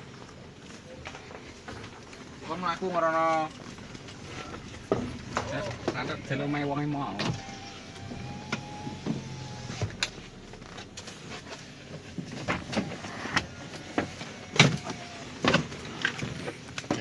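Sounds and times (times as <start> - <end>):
vehicle whine: 0.0 - 17.0.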